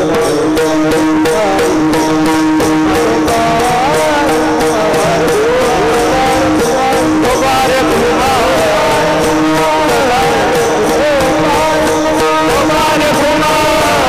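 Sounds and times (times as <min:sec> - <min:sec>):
drum strokes: 0:00.0 - 0:14.0
wavering melody: 0:00.0 - 0:14.0.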